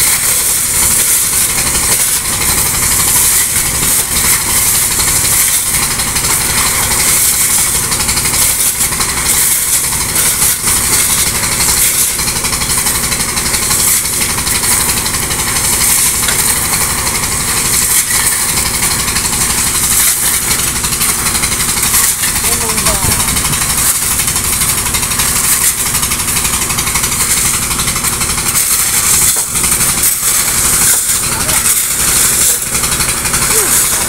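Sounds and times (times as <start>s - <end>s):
pump engine running: 0.0s - 34.0s.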